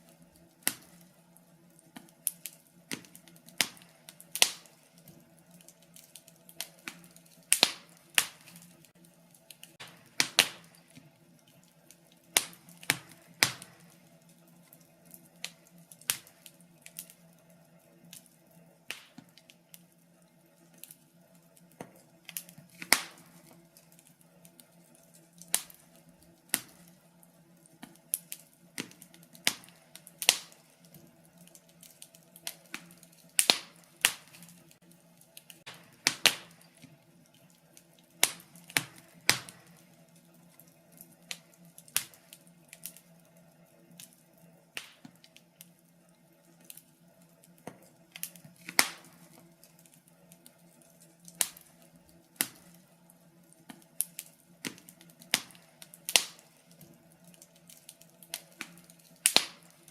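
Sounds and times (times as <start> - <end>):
faint steady hum: 0.0 - 59.9
wood fire crackling and popping: 0.0 - 59.9.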